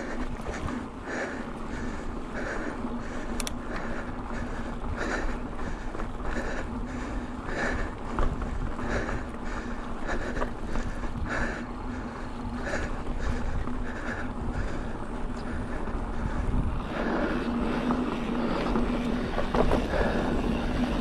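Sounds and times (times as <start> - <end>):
bike tyres rolling on dirt: 0.0 - 21.0
person breathing hard: 0.0 - 21.0.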